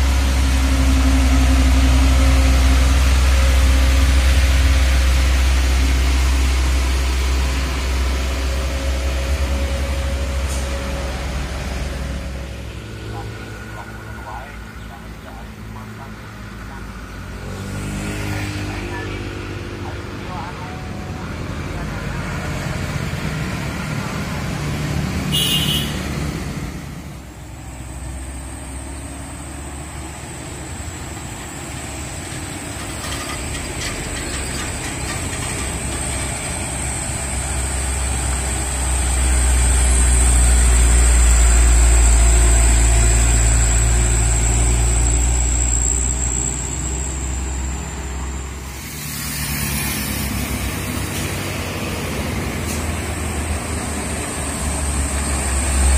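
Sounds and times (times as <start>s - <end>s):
diesel truck engine rumbling: 0.0s - 55.9s
passing traffic: 0.0s - 55.9s.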